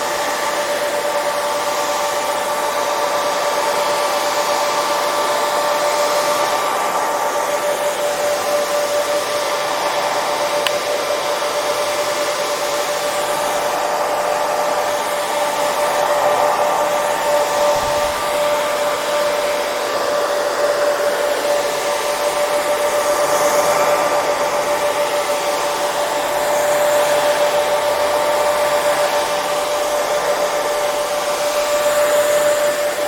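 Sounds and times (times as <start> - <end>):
hair dryer blowing air: 0.0 - 33.0
motor whine: 0.0 - 33.0.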